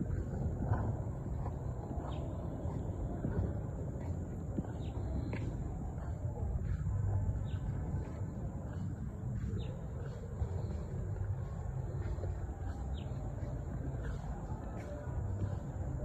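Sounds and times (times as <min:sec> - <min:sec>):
birds chirping: 0:00.0 - 0:16.0
steady low rumble: 0:00.0 - 0:16.0.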